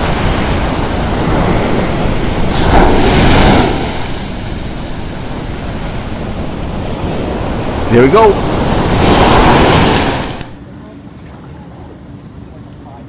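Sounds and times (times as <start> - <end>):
surf washing on shore: 0.0 - 10.6
wind on microphone: 0.0 - 10.6.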